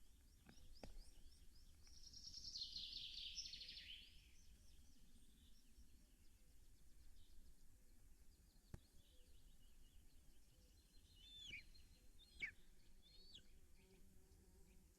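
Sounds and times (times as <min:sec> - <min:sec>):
faint songbirds singing: 0:00.0 - 0:14.9.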